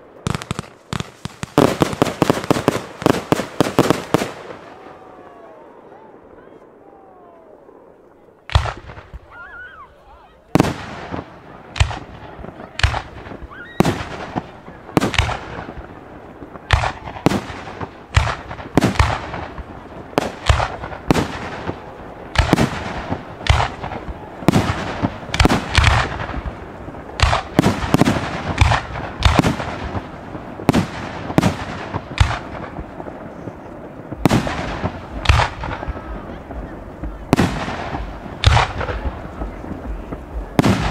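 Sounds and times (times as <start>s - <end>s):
firework bangs: 0.0s - 40.9s
firework crackling: 0.0s - 40.9s.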